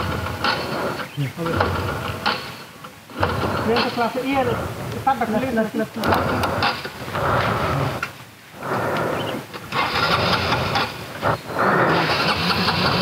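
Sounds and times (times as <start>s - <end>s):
motorcycle engine starting: 0.0s - 4.7s, 5.3s - 13.0s.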